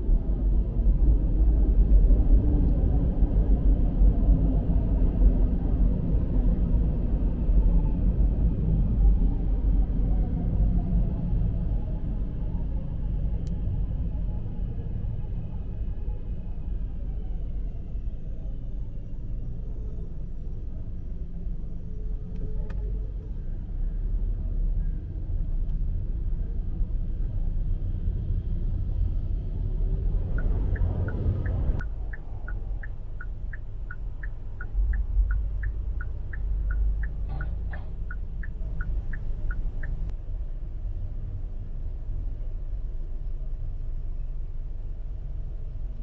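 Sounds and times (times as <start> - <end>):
street traffic rumble: 0.0 - 46.0.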